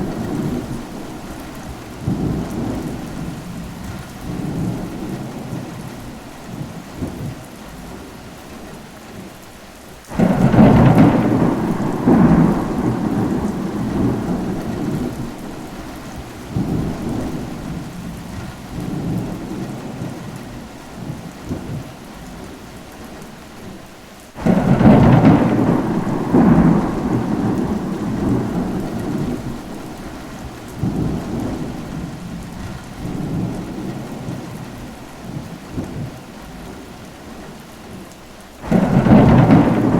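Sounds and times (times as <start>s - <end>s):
thunderclaps with rolling rumble: 0.0s - 8.1s, 10.1s - 23.2s, 24.4s - 38.0s, 38.6s - 39.9s
steady rain: 0.0s - 39.9s.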